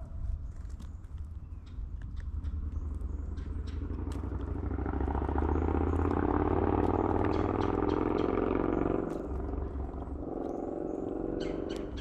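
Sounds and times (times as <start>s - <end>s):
passing motor vehicle engine: 2.0s - 12.0s.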